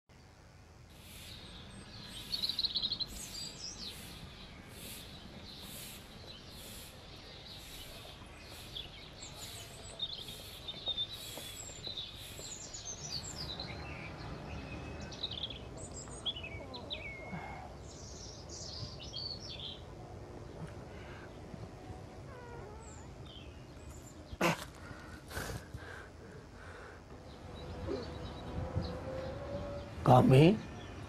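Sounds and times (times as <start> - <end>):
outdoor background noise: 0.1 - 31.0
small birds chirping: 0.1 - 31.0.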